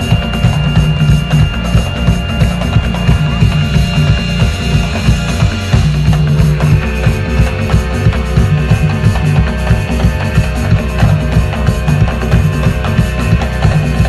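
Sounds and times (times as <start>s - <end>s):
fast drum strokes: 0.0s - 14.0s
pulsing bass line: 0.0s - 14.0s
steady held tones: 0.0s - 14.0s.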